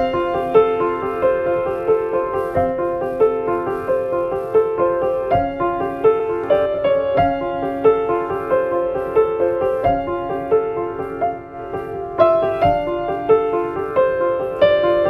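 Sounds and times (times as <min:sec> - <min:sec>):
gentle piano background music: 0:00.0 - 0:15.0.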